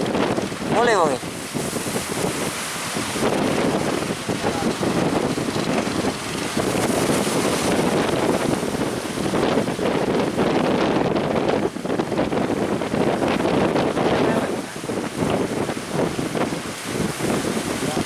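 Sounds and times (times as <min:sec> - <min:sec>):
surf breaking: 0:00.0 - 0:18.0
wind buffeting microphone: 0:00.0 - 0:18.0.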